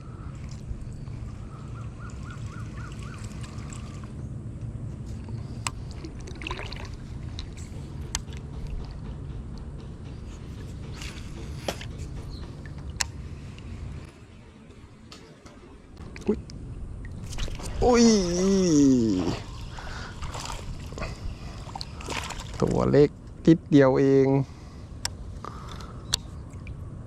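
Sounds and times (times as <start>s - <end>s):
water trickling and sloshing: 0.0s - 23.4s, 25.5s - 27.0s
low rumble: 0.0s - 23.5s.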